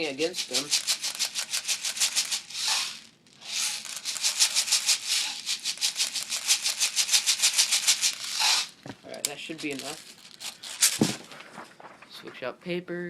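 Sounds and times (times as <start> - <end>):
plastic bbs rattling: 0.0 - 11.4.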